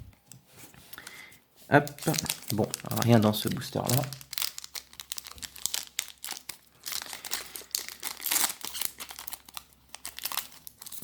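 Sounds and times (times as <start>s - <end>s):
foil wrapper crinkling: 1.8s - 11.0s.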